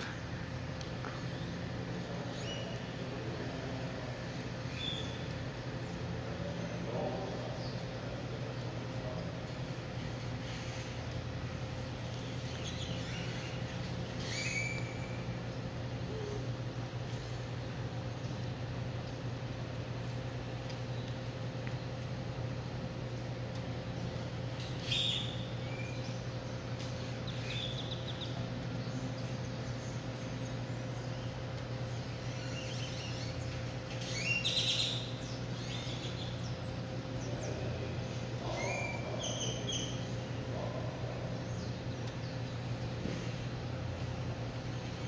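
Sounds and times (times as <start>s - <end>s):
low steady hum: 0.0s - 45.0s
small birds chirping: 0.0s - 45.0s.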